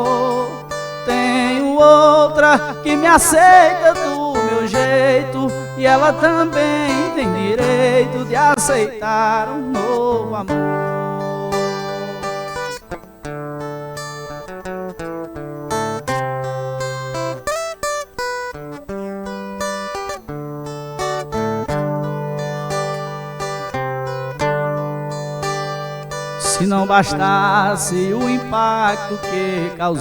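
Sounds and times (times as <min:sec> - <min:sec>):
plucked guitar melody: 0:00.0 - 0:30.0.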